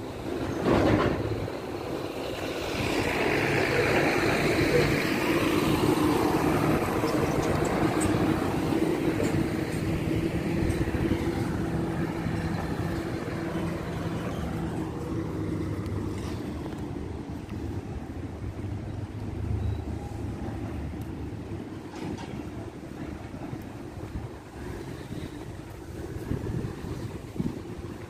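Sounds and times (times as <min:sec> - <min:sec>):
vehicles passing on road: 0:00.0 - 0:28.0.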